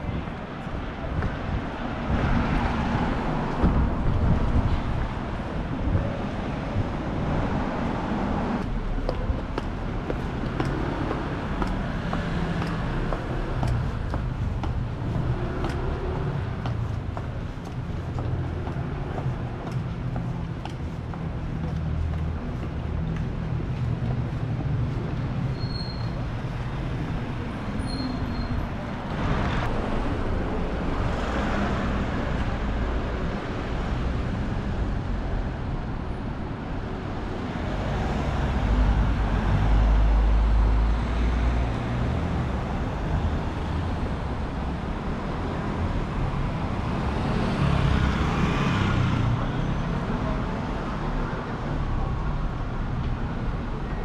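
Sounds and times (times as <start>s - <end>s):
background traffic hum: 0.0s - 54.0s
vehicles passing by: 0.0s - 54.0s.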